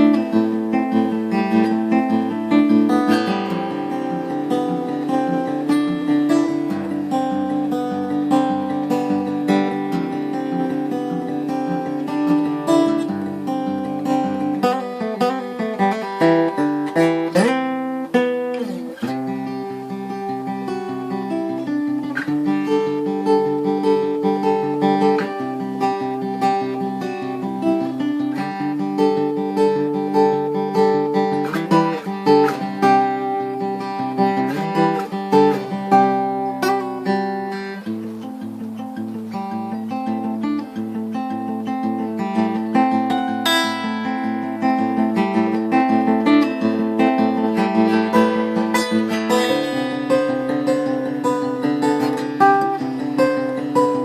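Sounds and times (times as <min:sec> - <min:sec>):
acoustic guitar fingerstyle: 0:00.0 - 0:54.0.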